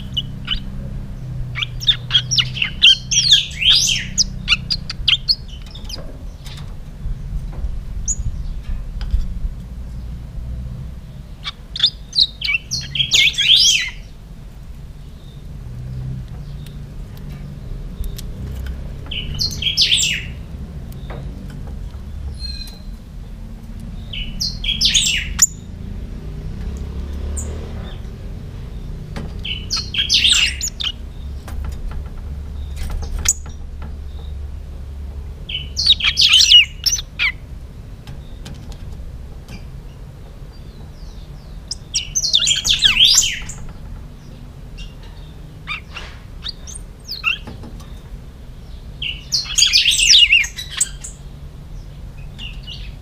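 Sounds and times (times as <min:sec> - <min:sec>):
bird singing warbled phrases: 0:00.0 - 0:08.8, 0:09.8 - 0:53.0.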